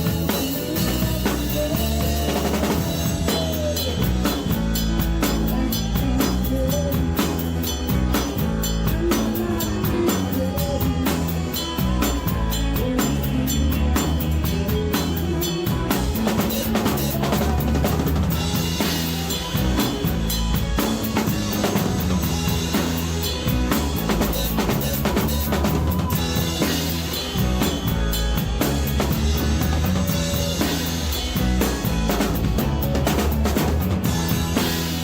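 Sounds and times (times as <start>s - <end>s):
drum kit steady beat: 0.0s - 35.0s
rock band playing: 0.0s - 35.0s.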